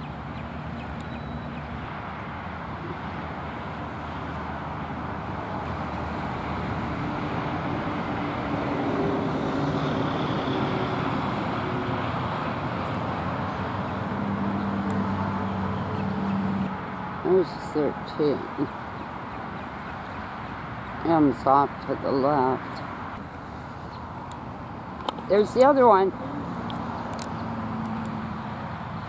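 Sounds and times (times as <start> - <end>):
vehicle passing by: 0.0 - 29.0.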